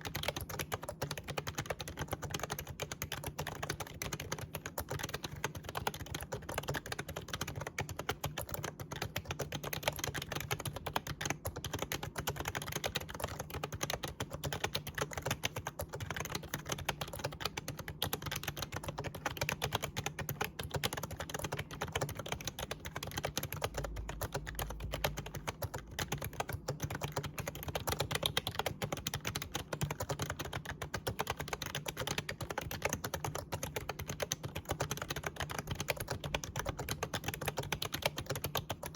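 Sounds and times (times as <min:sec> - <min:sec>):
fast typing on keyboard: 0:00.0 - 0:38.9.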